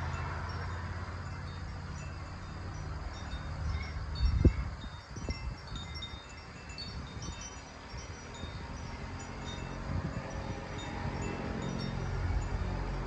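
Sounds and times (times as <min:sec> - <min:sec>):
wind chimes ringing: 0:00.0 - 0:13.0
wind rumble on microphone: 0:00.0 - 0:13.0.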